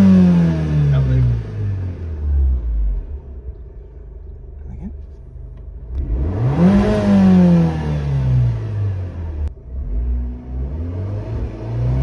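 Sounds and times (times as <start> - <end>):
car engine revving from idle: 0.0 - 3.5, 5.0 - 12.0.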